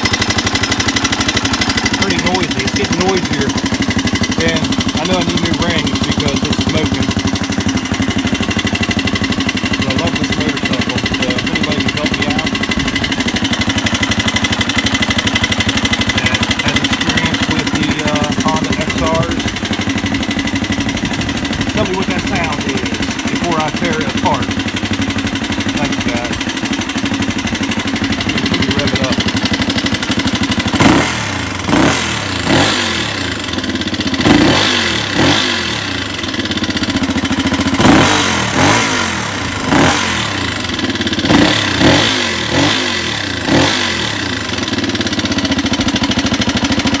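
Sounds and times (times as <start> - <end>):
motorcycle engine idling and revving: 0.0 - 47.0
valvetrain ticking: 0.0 - 47.0.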